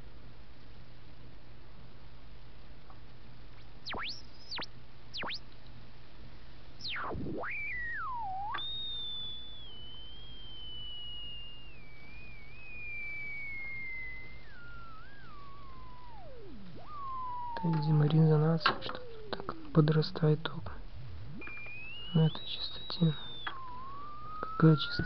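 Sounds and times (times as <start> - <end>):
steady low hum: 0.0 - 25.0
tesla coil whistling whine: 3.5 - 5.5, 6.8 - 25.0.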